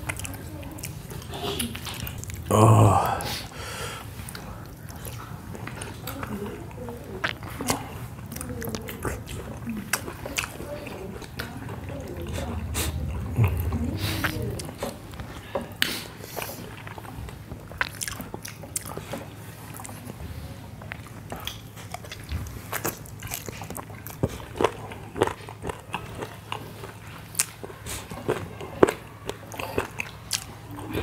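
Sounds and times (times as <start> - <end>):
wet chewing mouth sounds: 0.0 - 31.0.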